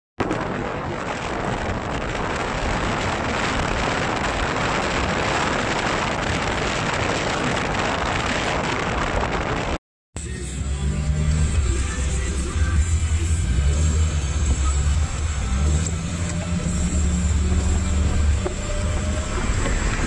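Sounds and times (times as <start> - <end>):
wind and tyres rushing: 0.2 - 9.8, 12.7 - 20.0.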